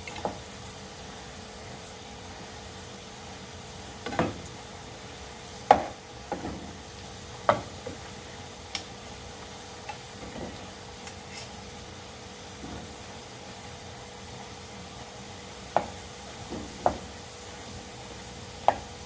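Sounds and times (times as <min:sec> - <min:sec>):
fries sizzling in hot oil: 0:00.0 - 0:19.0.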